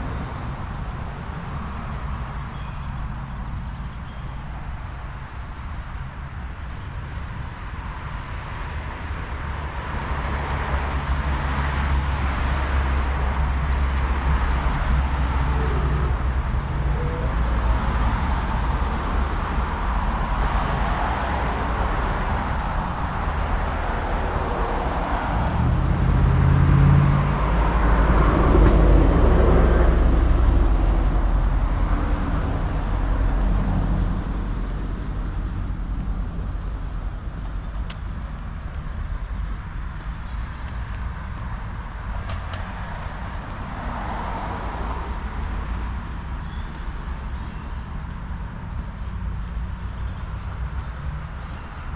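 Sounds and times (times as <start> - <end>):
car passing with tyre rumble: 0.0 - 51.9.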